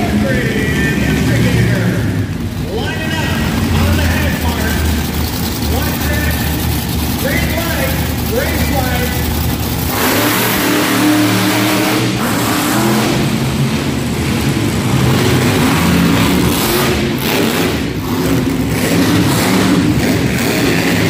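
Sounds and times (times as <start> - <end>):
monster truck engine revving: 0.0 - 21.0.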